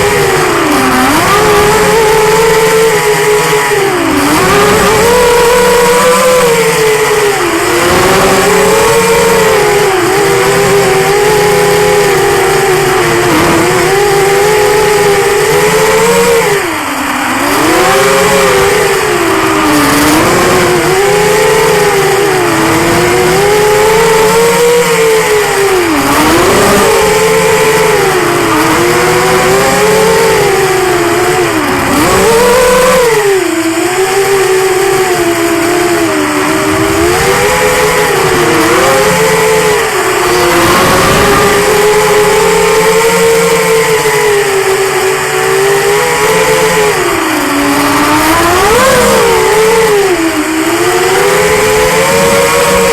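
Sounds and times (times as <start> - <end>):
quadcopter motors whining: 0.0 - 52.9.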